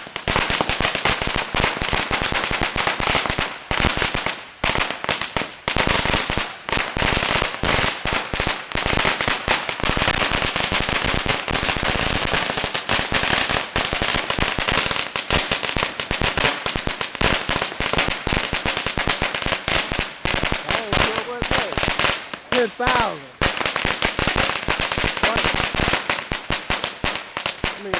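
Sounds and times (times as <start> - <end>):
firecrackers crackling: 0.0 - 27.9.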